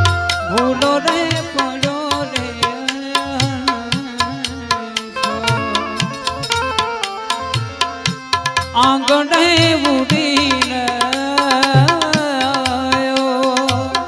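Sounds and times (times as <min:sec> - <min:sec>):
sustained harmonium tones: 0:00.0 - 0:14.0
tabla and percussion rhythm: 0:00.0 - 0:14.0.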